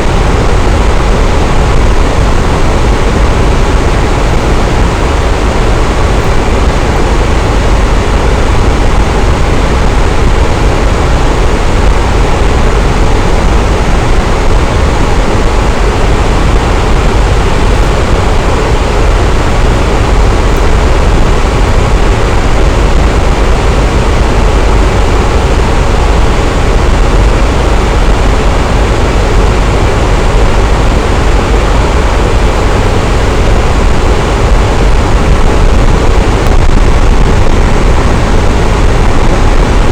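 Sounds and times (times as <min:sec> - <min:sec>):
electric fan whooshing air: 0:00.0 - 0:39.9
faint motor hum: 0:00.0 - 0:39.9.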